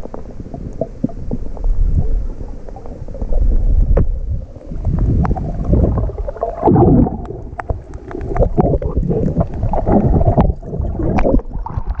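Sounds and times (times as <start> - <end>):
muffled water sloshing: 0.0 - 12.0.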